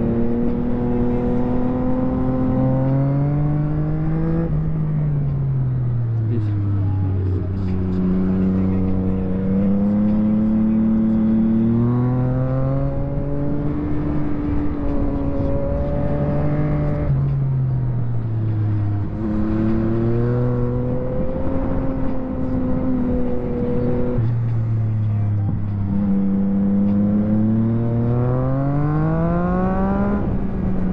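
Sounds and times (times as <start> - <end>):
motorcycle engine revving: 0.0 - 5.1, 5.7 - 30.9.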